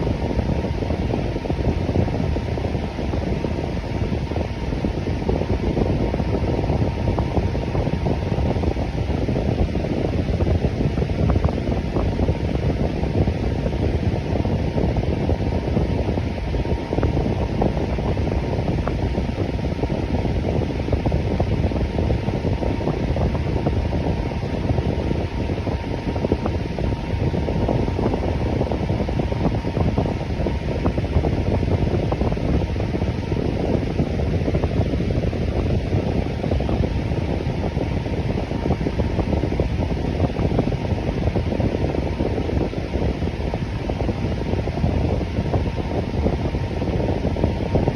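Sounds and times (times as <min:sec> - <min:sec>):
electric fan running: 0:00.0 - 0:47.9
faint steady hum: 0:00.0 - 0:47.9.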